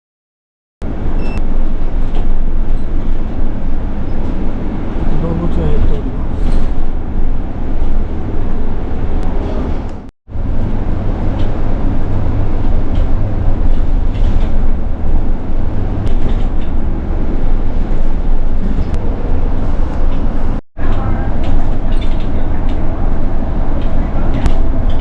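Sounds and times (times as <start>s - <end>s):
public transport vehicle rumble: 0.8s - 25.0s.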